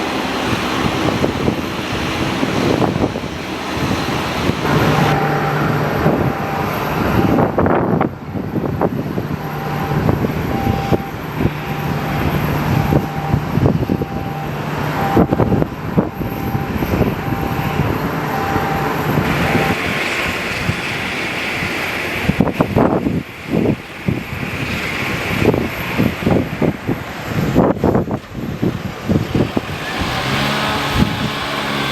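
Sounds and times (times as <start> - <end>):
aircraft engine hum: 0.0 - 31.9
gusty wind buffeting microphone: 0.0 - 31.9.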